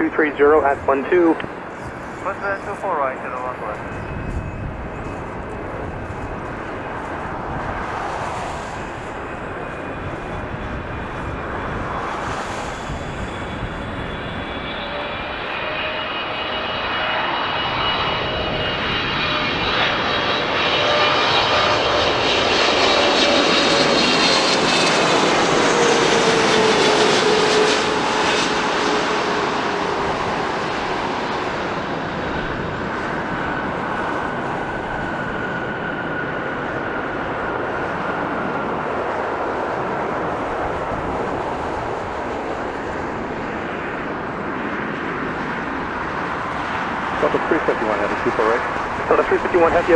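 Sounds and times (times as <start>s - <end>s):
jet airliner engine whine: 0.0s - 49.9s.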